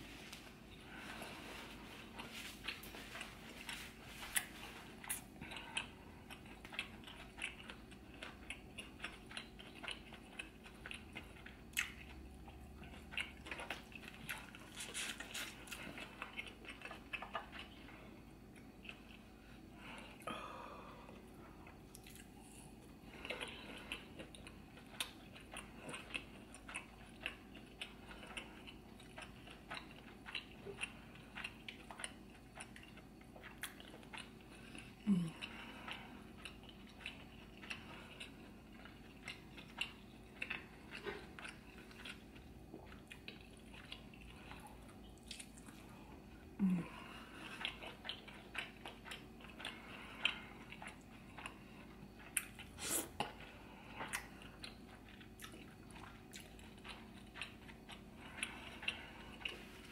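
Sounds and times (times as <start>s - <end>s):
wet chewing: 0.3s - 20.4s, 21.5s - 59.9s.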